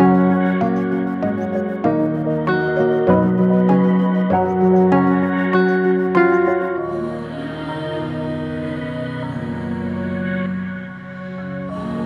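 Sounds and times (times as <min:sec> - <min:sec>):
ambient music with held chords: 0:00.0 - 0:12.0.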